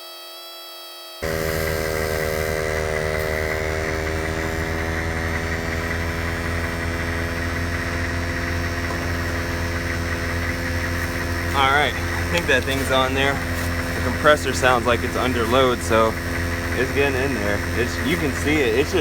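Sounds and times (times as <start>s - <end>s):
air compressor running: 0.0s - 19.0s.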